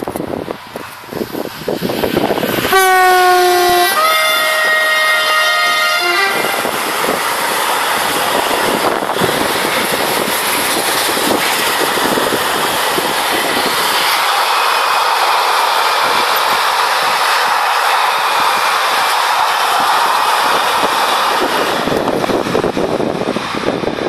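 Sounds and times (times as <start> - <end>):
train wheels running on rails: 0.0 - 24.0.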